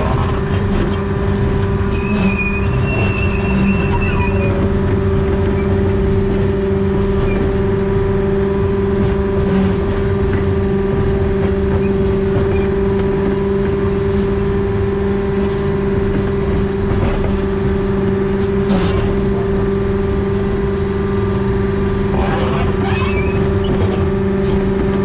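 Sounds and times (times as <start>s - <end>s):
locomotive diesel engine droning: 0.0s - 25.0s.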